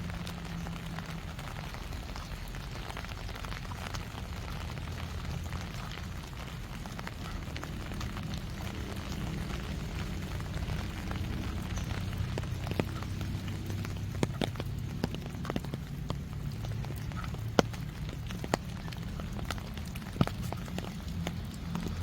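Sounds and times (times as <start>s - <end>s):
heavy drops ticking close by: 0.0s - 22.0s
steady rain: 0.0s - 22.0s.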